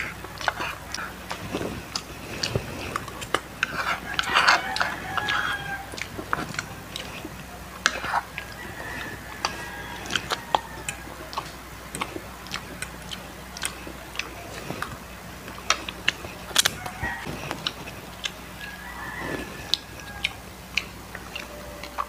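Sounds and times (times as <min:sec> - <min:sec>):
chewing crispy fried chicken: 0:00.0 - 0:22.0.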